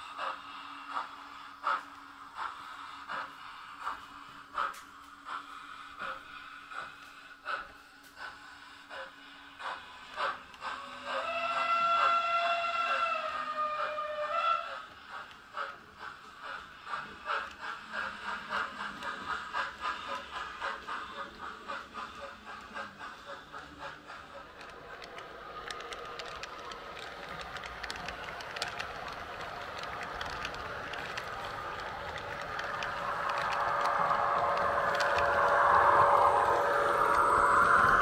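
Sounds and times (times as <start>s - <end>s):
model train rhythmic beat: 0.0s - 38.0s
model train whir with clicks: 0.0s - 38.0s.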